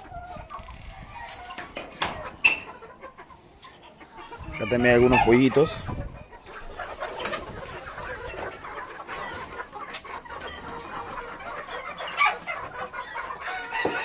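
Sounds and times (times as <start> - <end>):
chickens clucking and calling: 0.0 - 14.0.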